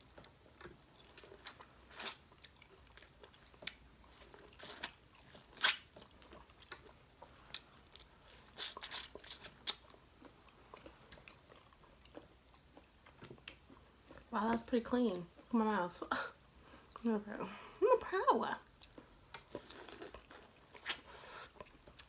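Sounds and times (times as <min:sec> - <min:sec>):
chewing and crunching: 0:00.0 - 0:15.5, 0:18.6 - 0:22.0.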